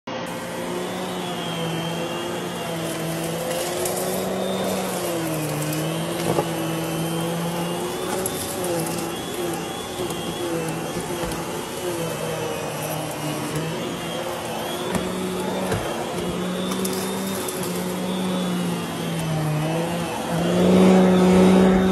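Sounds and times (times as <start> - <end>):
vacuum cleaner humming: 0.1 - 21.9.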